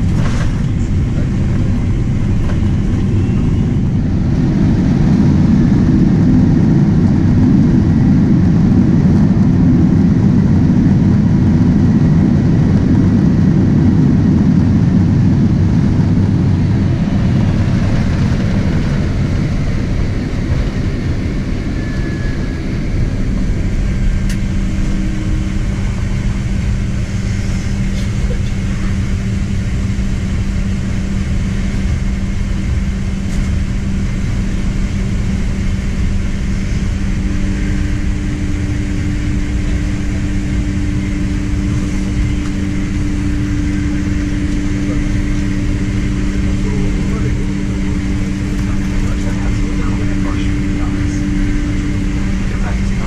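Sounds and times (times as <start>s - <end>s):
jet rumbling on runway: 0.0s - 53.0s.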